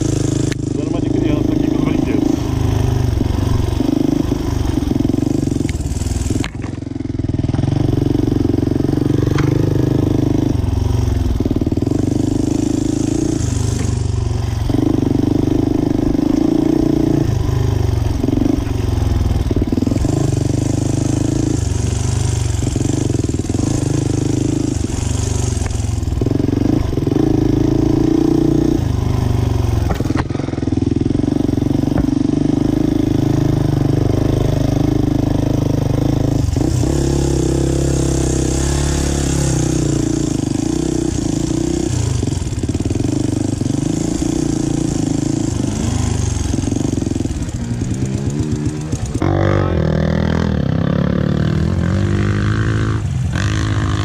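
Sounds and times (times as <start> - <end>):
off-road motorcycle engine revving: 0.0 - 54.0.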